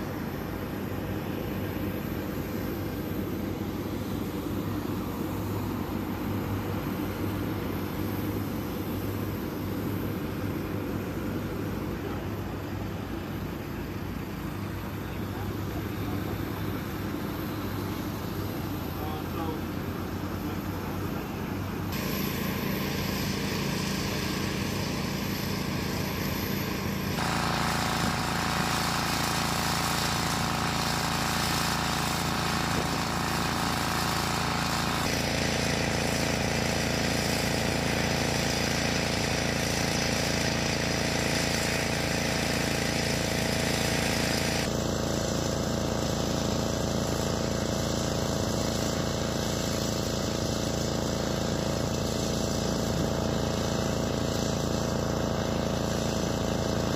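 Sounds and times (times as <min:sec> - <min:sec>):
engine and machinery noise: 0:00.0 - 0:56.9.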